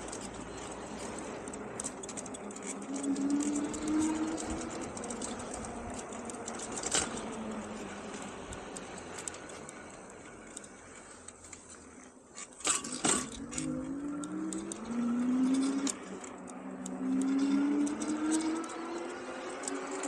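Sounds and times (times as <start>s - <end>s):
wind and tyre noise: 0.0s - 20.0s.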